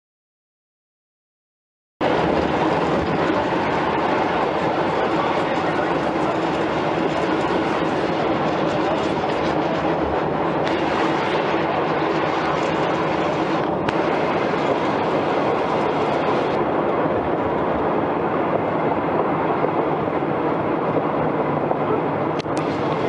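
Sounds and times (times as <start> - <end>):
train wheels on rails: 2.0 - 23.0.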